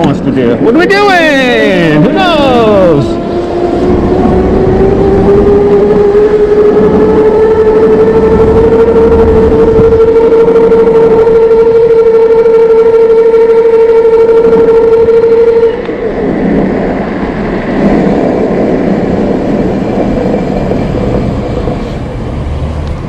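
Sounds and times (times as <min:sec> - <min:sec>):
street traffic noise: 0:00.0 - 0:11.4, 0:15.2 - 0:23.0.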